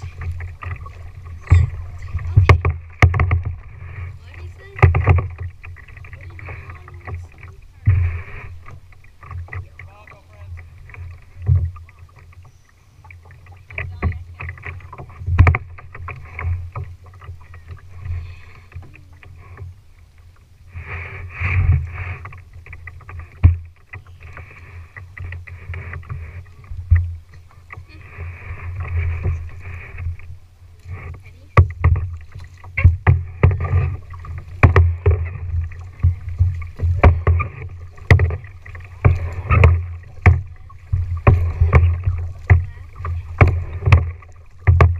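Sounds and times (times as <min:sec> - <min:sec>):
paddles knocking on plastic kayak: 0:00.0 - 0:12.4, 0:13.2 - 0:18.1, 0:21.0 - 0:44.9
paddles splashing in water: 0:00.0 - 0:44.9.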